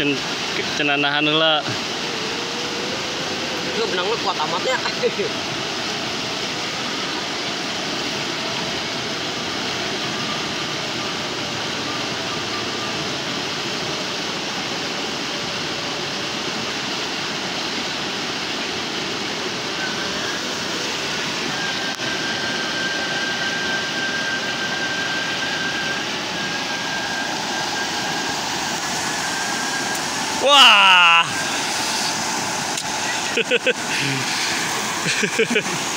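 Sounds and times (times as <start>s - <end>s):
river rapids rushing: 0.0s - 35.9s.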